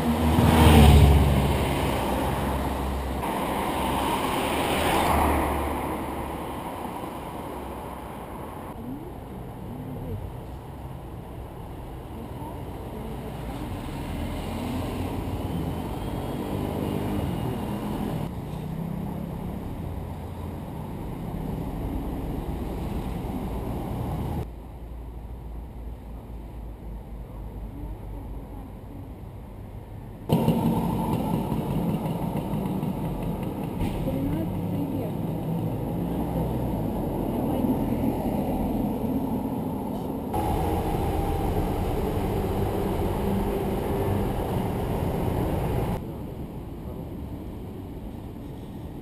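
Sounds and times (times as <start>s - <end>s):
car engines rumbling: 0.0s - 24.5s, 27.2s - 49.0s
vehicles passing: 0.0s - 49.0s.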